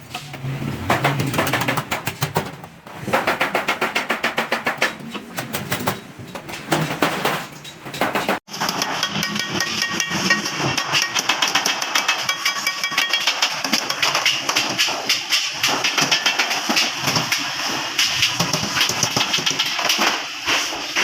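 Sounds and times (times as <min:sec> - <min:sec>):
hammer striking steel sheet: 0:00.1 - 0:21.0.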